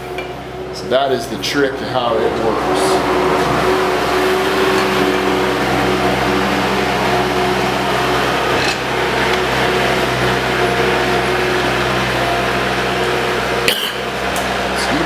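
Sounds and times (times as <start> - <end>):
loader engine droning: 0.0 - 15.0.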